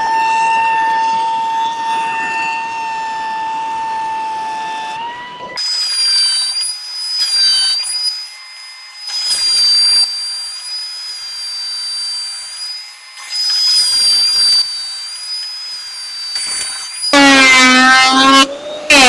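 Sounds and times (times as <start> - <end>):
electric sander whining: 0.0 - 19.0.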